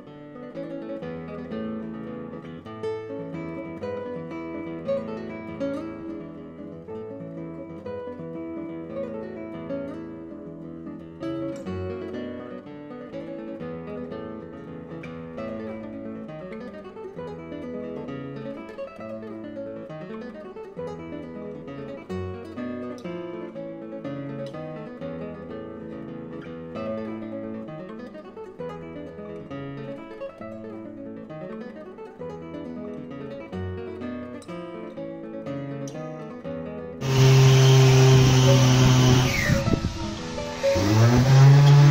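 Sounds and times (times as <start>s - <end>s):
classical guitar playing: 0.0s - 41.9s.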